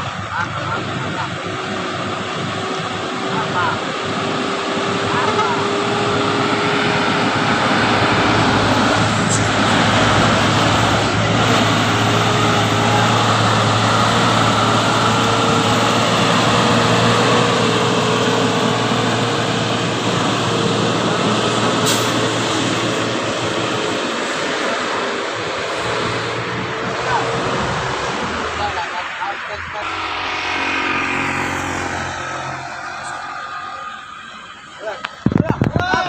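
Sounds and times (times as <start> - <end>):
road noise: 0.0 - 36.0
truck engine droning: 0.0 - 36.0.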